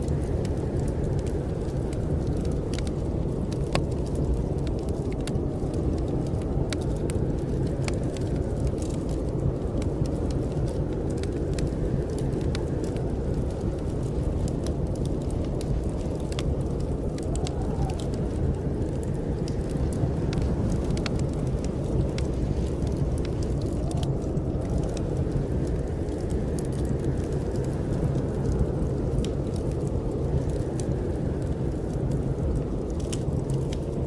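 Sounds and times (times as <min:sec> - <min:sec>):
wind blowing in a low rush: 0:00.0 - 0:34.0
wood fire crackling: 0:00.0 - 0:34.0.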